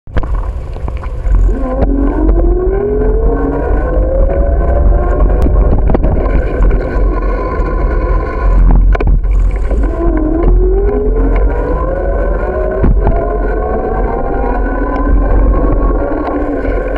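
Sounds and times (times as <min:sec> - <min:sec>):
heavy wind: 0:00.1 - 0:16.9
road rumble: 0:00.1 - 0:16.9
rising whine: 0:00.9 - 0:16.9.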